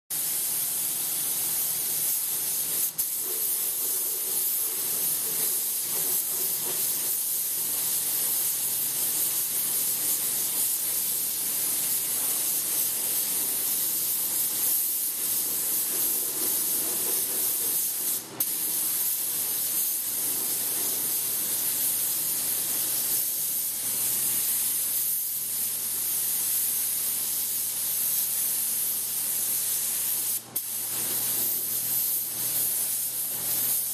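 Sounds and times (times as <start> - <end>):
paint spray gun hissing: 0.1 - 33.9.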